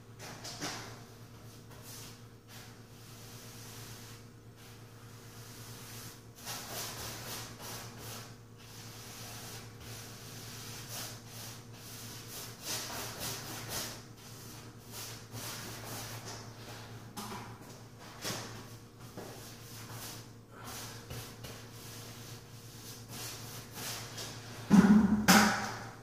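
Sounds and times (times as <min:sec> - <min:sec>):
paintbrush swishing on wall: 0:01.3 - 0:16.9, 0:18.0 - 0:24.7.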